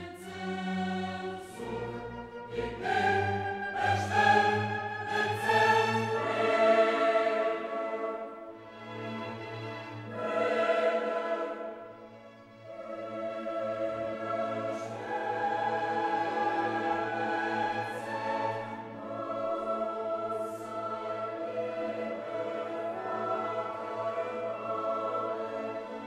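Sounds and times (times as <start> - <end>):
choir and orchestra chords: 0.0 - 26.0.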